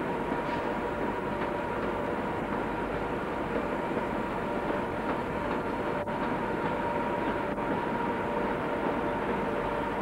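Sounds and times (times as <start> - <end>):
electric trains humming: 0.0 - 10.0.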